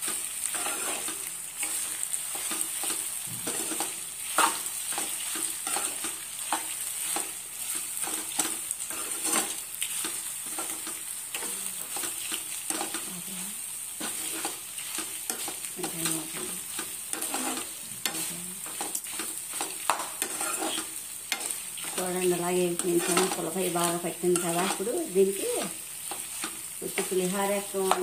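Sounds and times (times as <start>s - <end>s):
metal spoon scraping a pan: 0.0s - 13.1s, 13.9s - 28.0s
leaves sizzling in a pan: 0.0s - 28.0s.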